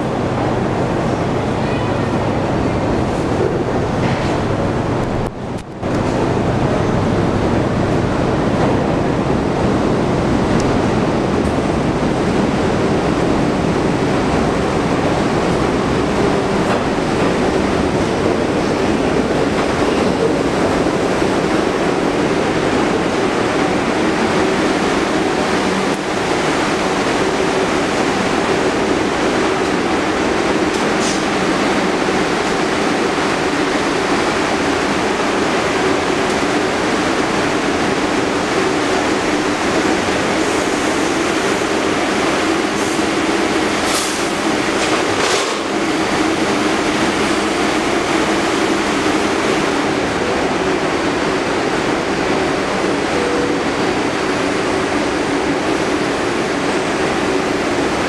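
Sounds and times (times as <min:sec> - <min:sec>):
subway train rumbling on rails: 0:00.0 - 0:58.0.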